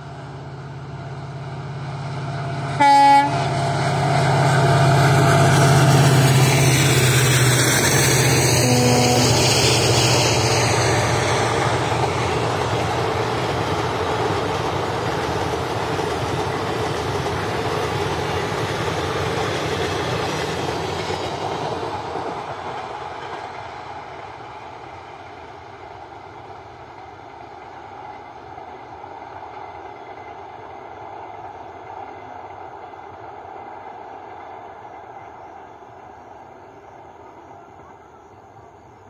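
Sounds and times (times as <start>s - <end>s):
train coaches rolling past: 0.0s - 39.0s.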